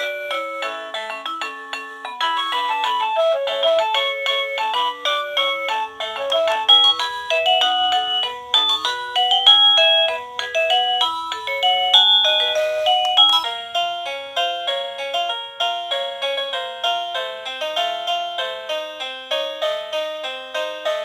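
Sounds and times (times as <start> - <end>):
doorbell beeping melody: 0.0 - 21.0.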